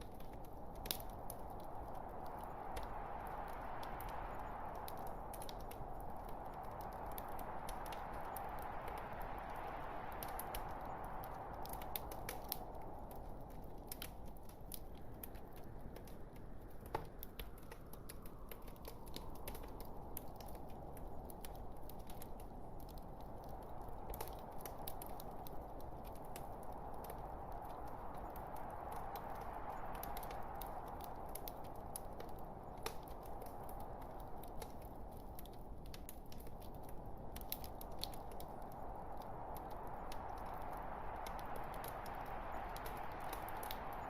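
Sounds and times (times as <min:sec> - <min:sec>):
wood fire crackling and popping: 0:00.0 - 0:44.0.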